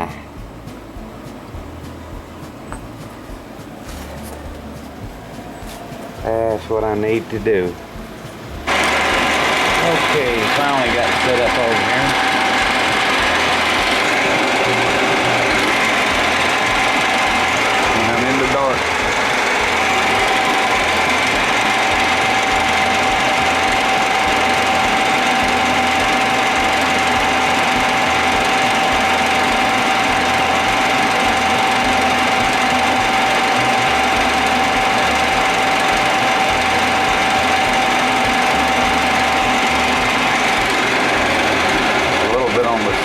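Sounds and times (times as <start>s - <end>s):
metal lathe running with whine: 5.9s - 43.0s.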